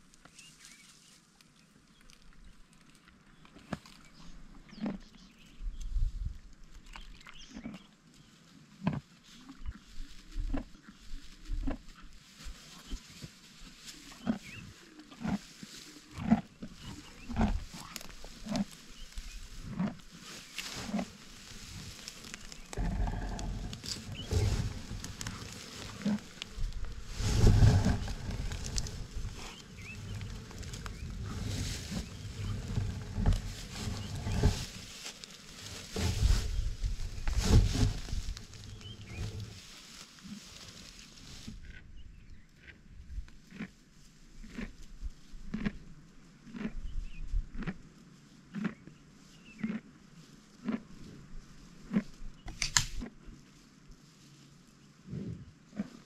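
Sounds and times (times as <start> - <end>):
rhinoceros chewing grass: 0.0 - 56.0.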